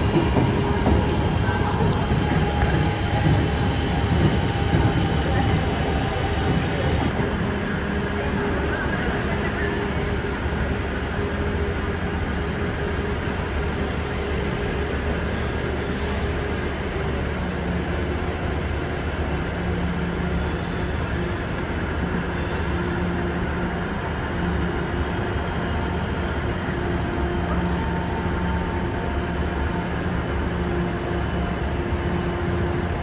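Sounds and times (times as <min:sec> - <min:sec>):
train engines idling: 0:00.0 - 0:33.0.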